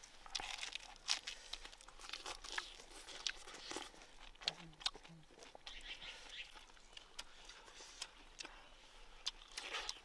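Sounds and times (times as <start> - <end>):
crunching while chewing ribs: 0.0 - 10.0.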